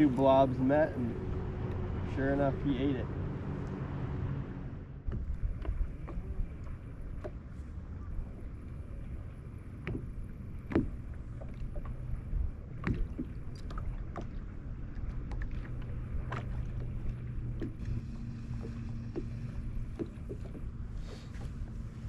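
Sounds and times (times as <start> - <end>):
rumble of wind and water: 0.0 - 22.0.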